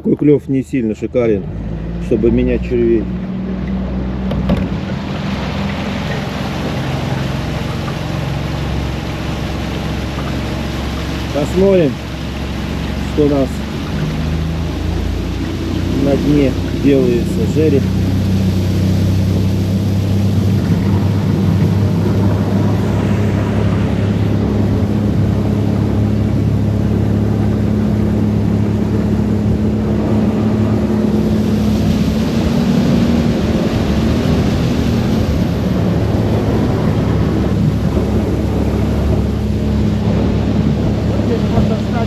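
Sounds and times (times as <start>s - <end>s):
outboard motor drone: 0.0s - 42.0s
water and wind rushing: 0.0s - 42.0s.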